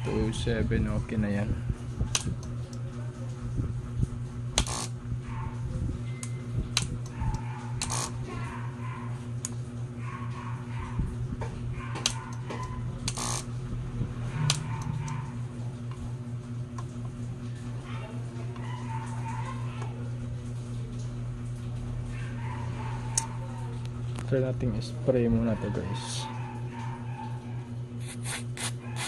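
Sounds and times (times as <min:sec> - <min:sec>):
voltage regulator mains hum: 0:00.0 - 0:29.0.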